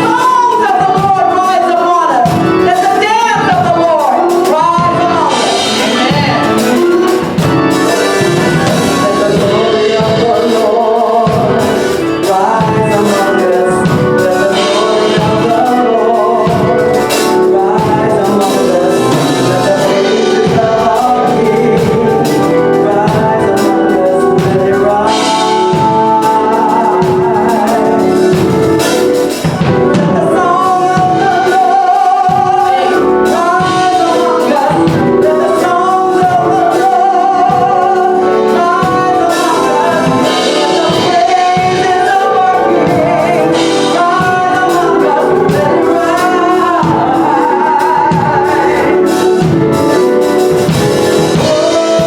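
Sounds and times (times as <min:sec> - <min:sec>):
choir singing gospel music: 0:00.0 - 0:52.0.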